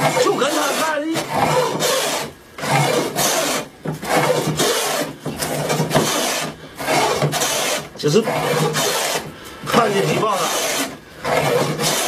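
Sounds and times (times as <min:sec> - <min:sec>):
hand plane stroking wood: 0:00.0 - 0:12.0.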